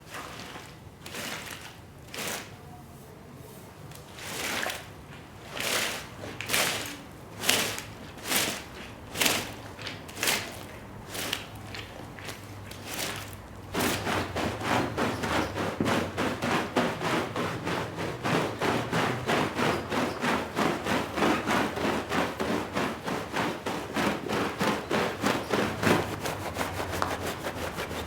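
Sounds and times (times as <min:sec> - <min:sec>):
wet swishing on a rug: 0:04.1 - 0:28.0.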